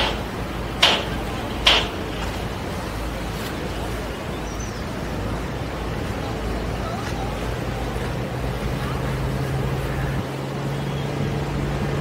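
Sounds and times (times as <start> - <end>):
boat engine rumbling: 0.0 - 12.0
water under boat: 0.0 - 12.0.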